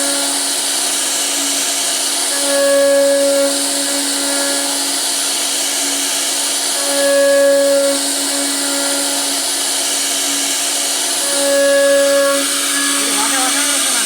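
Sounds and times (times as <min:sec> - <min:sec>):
router spindle whining: 0:00.0 - 0:14.0.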